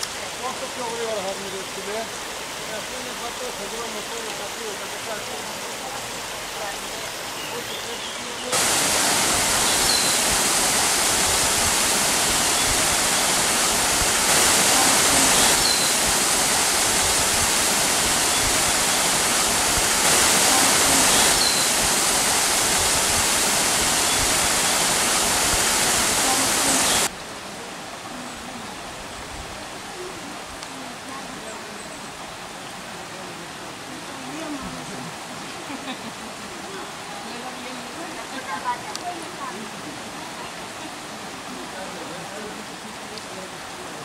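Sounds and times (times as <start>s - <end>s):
rushing water: 0.0s - 44.0s.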